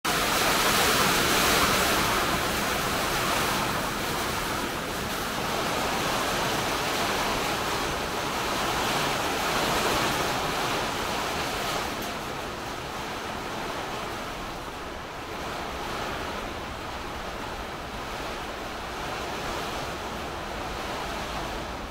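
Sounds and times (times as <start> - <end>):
steady rain hiss: 0.1 - 21.9.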